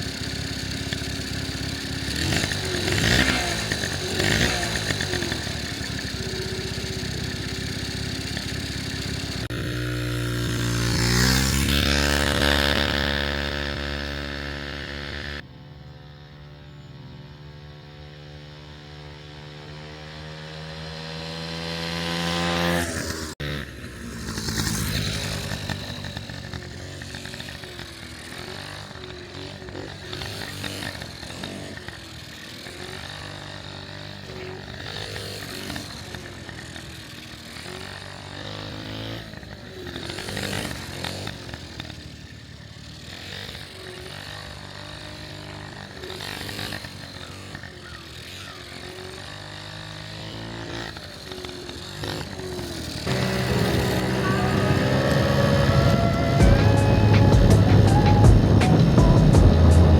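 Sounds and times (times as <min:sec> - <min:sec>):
scooter engine revving: 0:00.0 - 0:59.9.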